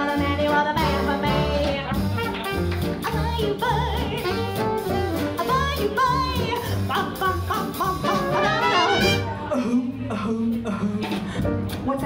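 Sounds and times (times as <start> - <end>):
swing jazz band playing: 0.0 - 12.0.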